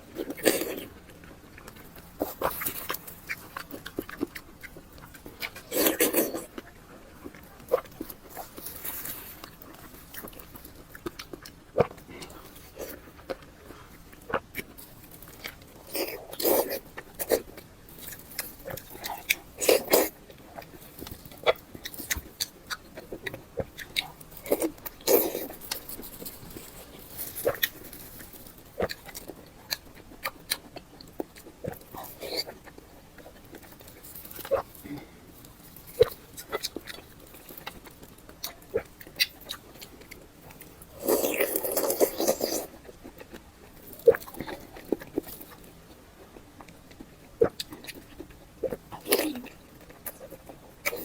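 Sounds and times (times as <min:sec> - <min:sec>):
wet chewing and lip-smacking: 0:00.0 - 0:51.0.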